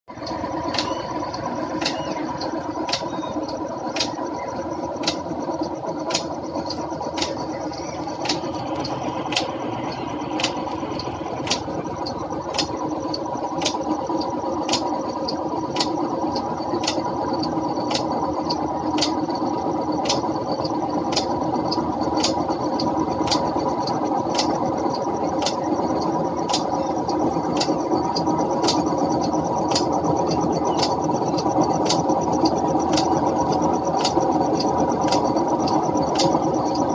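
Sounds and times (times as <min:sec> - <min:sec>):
steady machine hum: 0:00.0 - 0:36.9.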